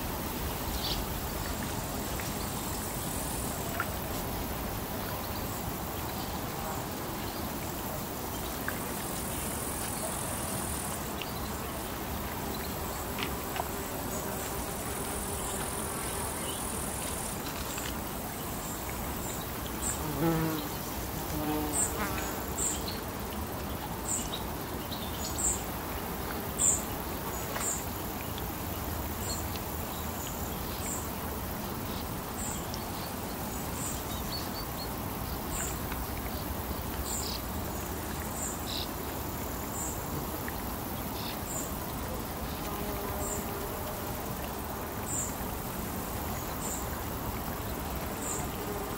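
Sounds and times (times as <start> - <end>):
soft hiss of water and air: 0.0 - 48.9.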